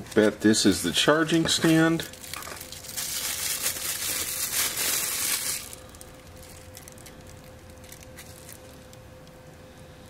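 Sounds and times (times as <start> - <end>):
plastic bag crinkling: 0.0 - 9.0
faint steady hum: 0.0 - 10.0.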